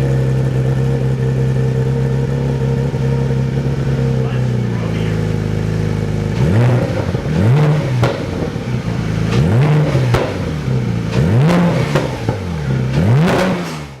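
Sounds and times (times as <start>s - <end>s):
car engine revving: 0.0s - 14.0s
exhaust cracks: 0.0s - 14.0s.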